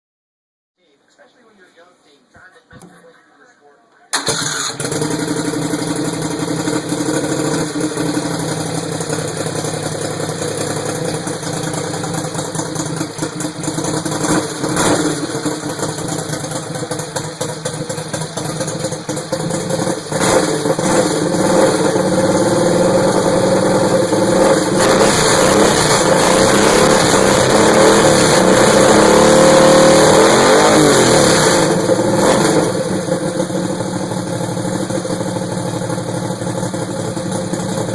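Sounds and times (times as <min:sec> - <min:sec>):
lawn mower engine running: 0:04.1 - 0:37.9.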